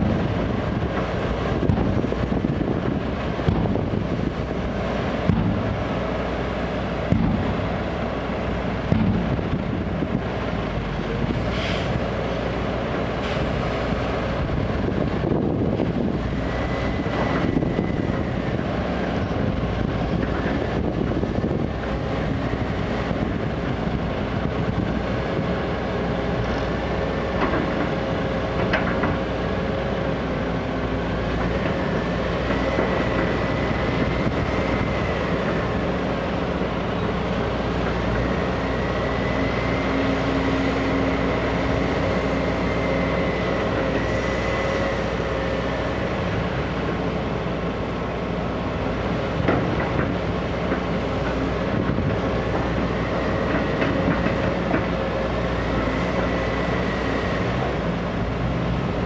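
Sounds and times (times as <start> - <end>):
heavy diesel machinery engine hum: 0.0 - 59.0.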